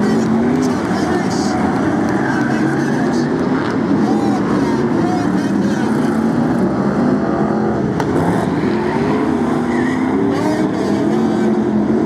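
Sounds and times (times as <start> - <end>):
stock car engines racing: 0.0 - 12.0.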